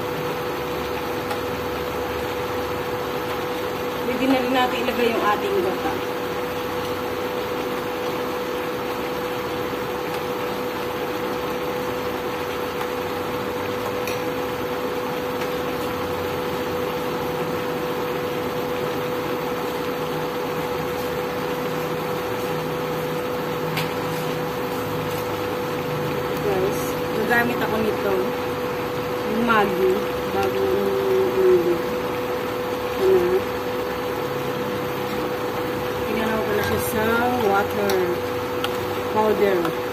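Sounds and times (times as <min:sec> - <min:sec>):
induction cooktop hum and fan: 0:00.0 - 0:39.9.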